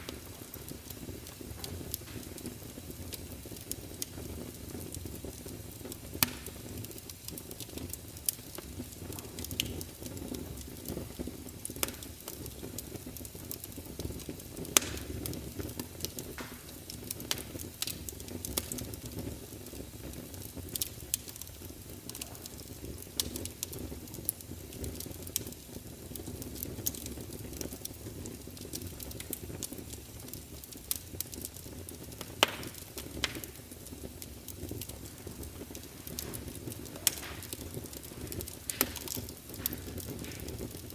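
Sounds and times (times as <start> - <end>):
loud fire pops: 0.0 - 40.9
wood fire crackling: 0.0 - 40.9.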